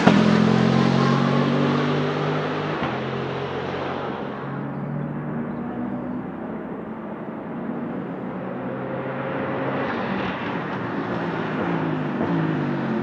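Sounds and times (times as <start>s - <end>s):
race car engine approaching: 0.0s - 13.0s.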